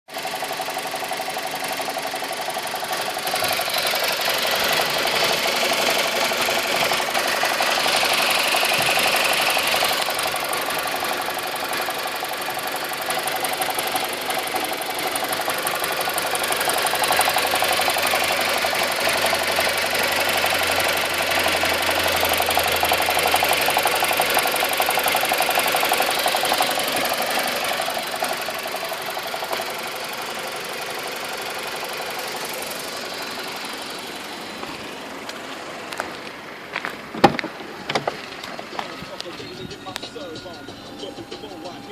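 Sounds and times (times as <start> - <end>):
car engine idling with rattle: 0.0 - 41.9.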